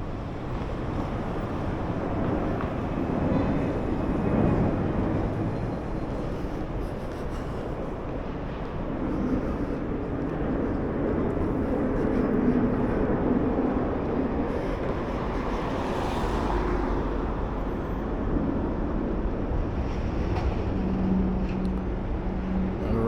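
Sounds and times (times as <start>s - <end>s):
passing traffic rumble: 0.0s - 23.0s.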